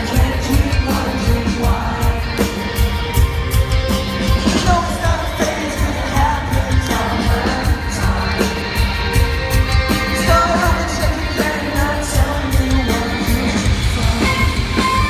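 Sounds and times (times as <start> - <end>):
drums: 0.0 - 15.0
electric guitars: 0.0 - 15.0
person singing: 0.0 - 15.0.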